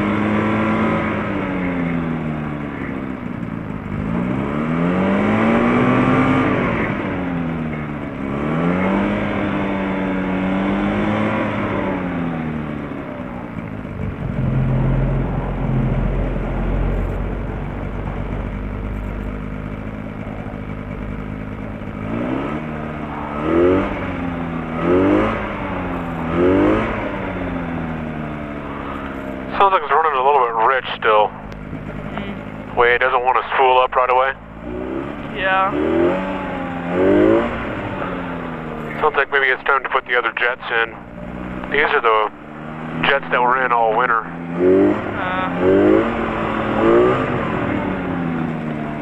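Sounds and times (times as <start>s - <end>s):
aircraft piston engine revving: 0.0s - 42.2s.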